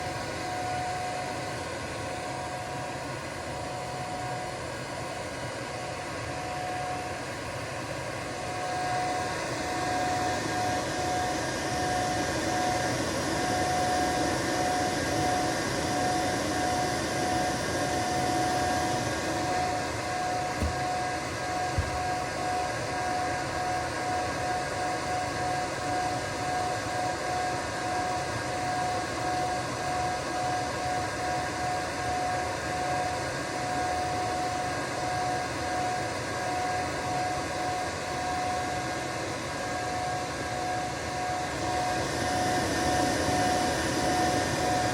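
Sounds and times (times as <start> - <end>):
cooling fan whirring with whine: 0.0 - 44.9.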